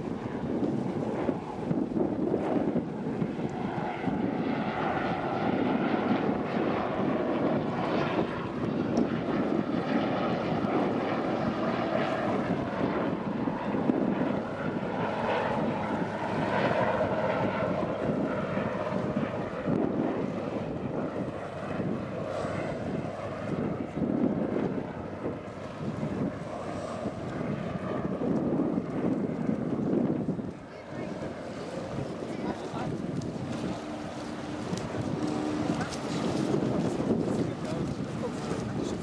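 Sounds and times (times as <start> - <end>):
wind on microphone: 0.0 - 39.0.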